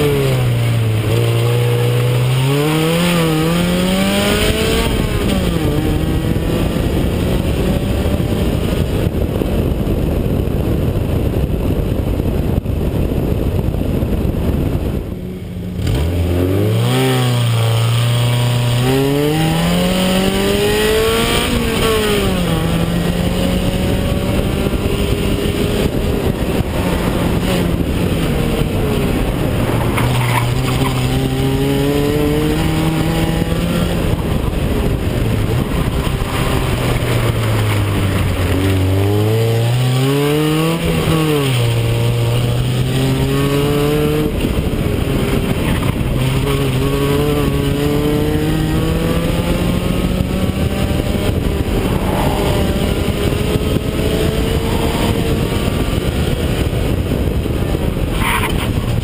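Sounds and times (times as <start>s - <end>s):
car engine revving: 0.0s - 8.4s, 15.4s - 56.7s
wind noise: 0.0s - 59.0s.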